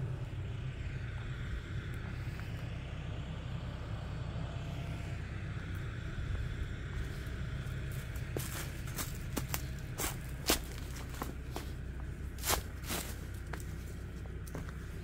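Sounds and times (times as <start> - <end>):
rice mill machinery rumbling: 0.0 - 15.0.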